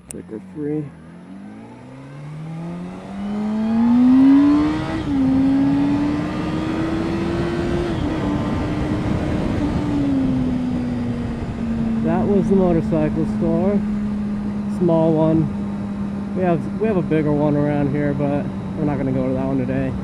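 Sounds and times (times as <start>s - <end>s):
road and wind noise: 0.0s - 20.0s
vehicle engine accelerating: 0.0s - 20.0s.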